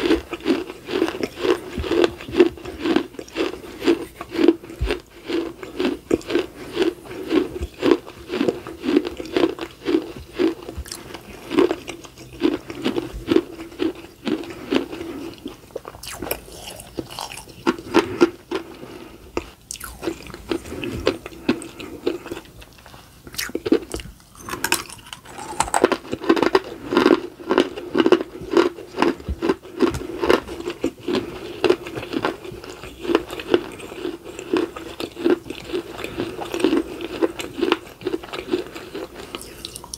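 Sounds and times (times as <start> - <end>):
teeth crunching dry clay: 0.0 - 39.9.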